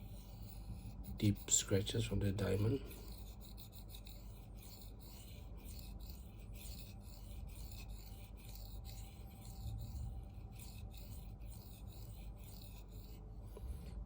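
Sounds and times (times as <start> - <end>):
knife scraping on sharpening stone: 0.0 - 13.2.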